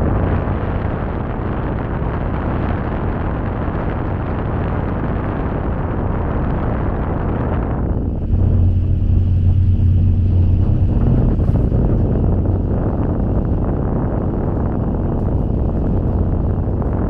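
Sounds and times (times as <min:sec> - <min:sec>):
cable car cabin rumbling: 0:00.0 - 0:17.0.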